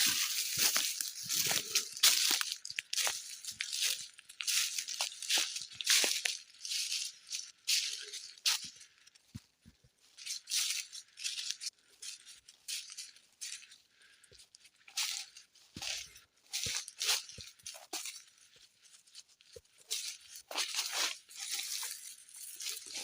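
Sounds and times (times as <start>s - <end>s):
footsteps crunching on dry ground: 0.0s - 23.0s.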